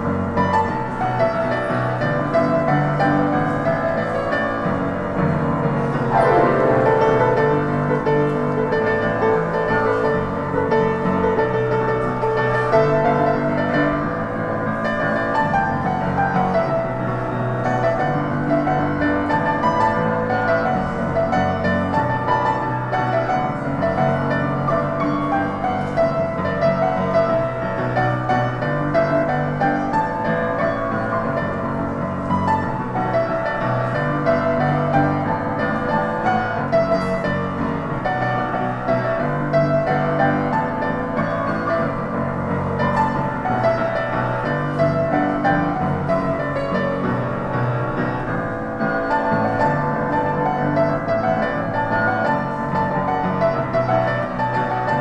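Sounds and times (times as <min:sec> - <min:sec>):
piano playing a pop song: 0:00.0 - 0:55.0.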